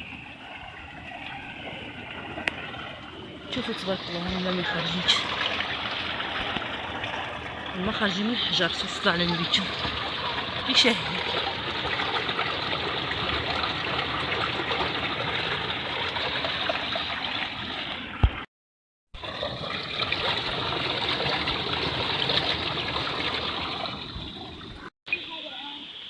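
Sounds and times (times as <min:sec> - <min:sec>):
spring water running: 0:00.0 - 0:18.3, 0:19.2 - 0:24.9.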